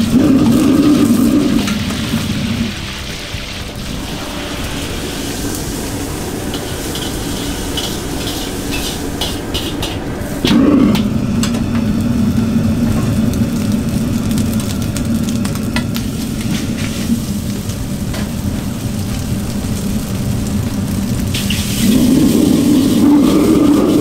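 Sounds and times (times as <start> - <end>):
gas burner roaring: 0.0 - 24.0.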